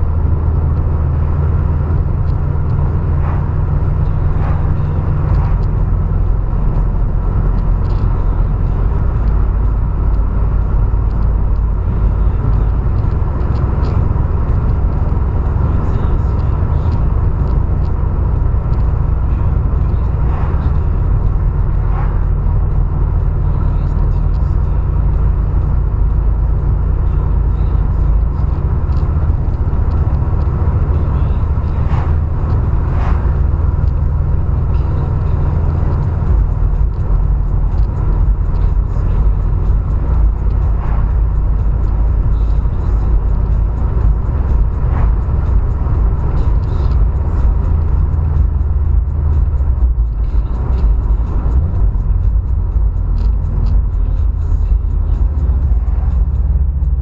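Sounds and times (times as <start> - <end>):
car rumble: 0.0 - 57.0.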